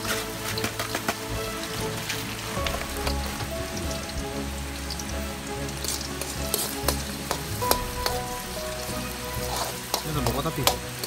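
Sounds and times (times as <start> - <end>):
onions sizzling in oil: 1.2 - 11.0.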